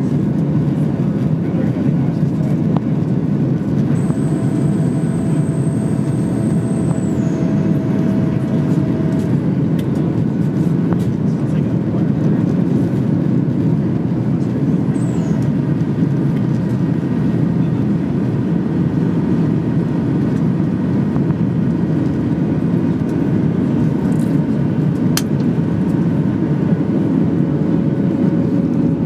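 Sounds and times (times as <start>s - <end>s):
jet engine cabin drone: 0.0s - 29.0s.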